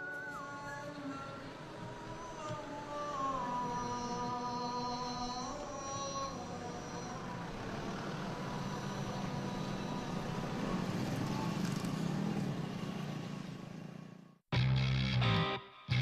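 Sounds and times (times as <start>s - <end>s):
road traffic rumble: 0.0s - 14.4s.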